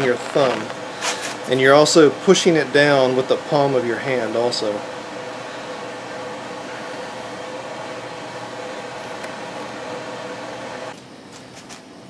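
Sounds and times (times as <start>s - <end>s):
electric motor whirring: 0.0s - 11.0s
background fan hum: 0.0s - 12.0s.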